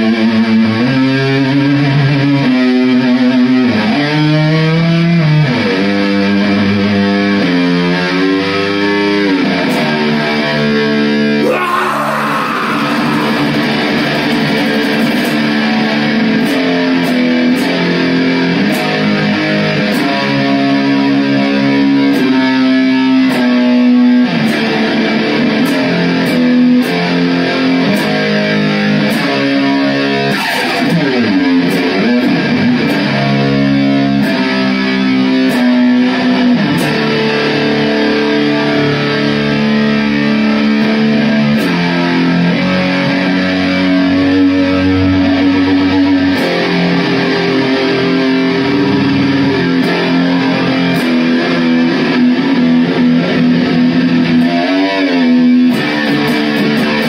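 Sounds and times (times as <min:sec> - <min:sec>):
electric guitar metal riffs: 0:00.0 - 0:57.0.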